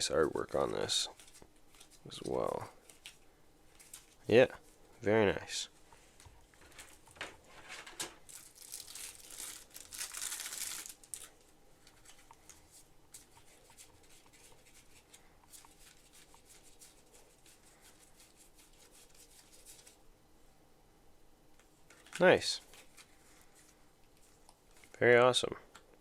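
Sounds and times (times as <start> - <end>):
cards and packaging rustling: 0.0 - 4.8, 6.2 - 20.0, 21.8 - 25.0.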